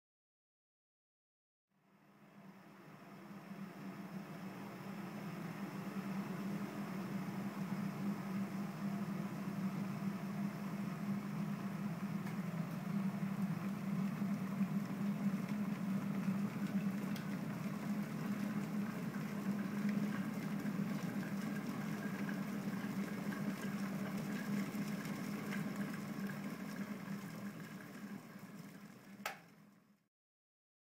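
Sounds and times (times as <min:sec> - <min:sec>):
electric kettle boiling water: 0:01.8 - 0:30.1.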